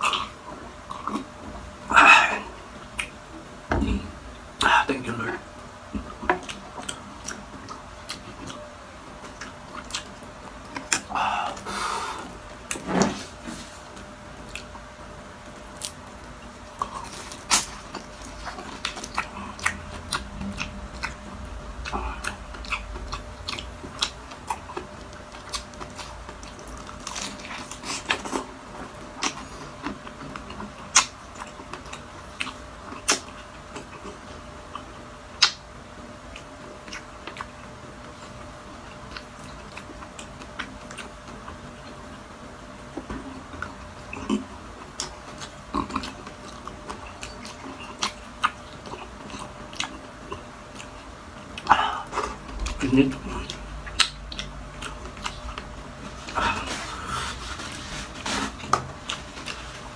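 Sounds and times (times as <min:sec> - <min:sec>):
crunchy food chewing: 0:05.9 - 0:59.9.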